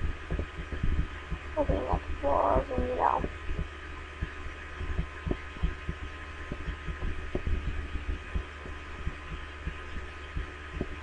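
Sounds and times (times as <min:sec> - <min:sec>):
low electrical hum: 0:00.0 - 0:11.0
soft low thumps: 0:00.0 - 0:11.0.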